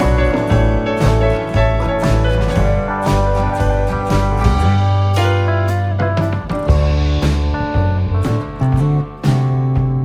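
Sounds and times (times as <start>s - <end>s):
bass line: 0.0s - 10.0s
held pitched notes: 0.0s - 10.0s
percussion hits: 0.0s - 10.0s.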